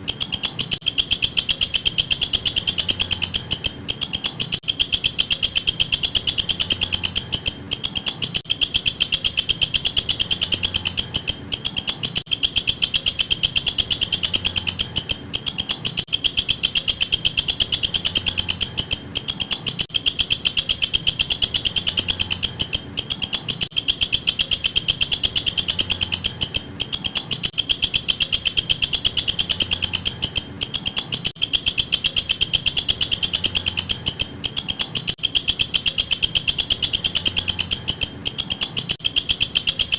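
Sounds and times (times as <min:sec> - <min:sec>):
katydid chirping: 0:00.0 - 0:39.9.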